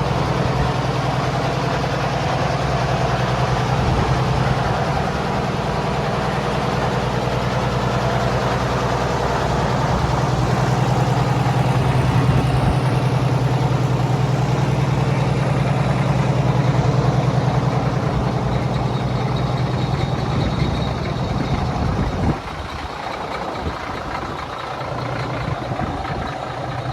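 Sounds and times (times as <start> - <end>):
diesel truck engine idling: 0.0 - 26.9.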